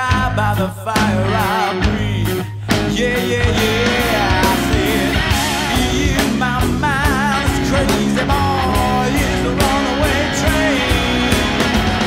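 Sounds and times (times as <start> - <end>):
bass guitar: 0.0 - 12.0
distorted electric guitar: 0.0 - 12.0
drums: 0.0 - 12.0.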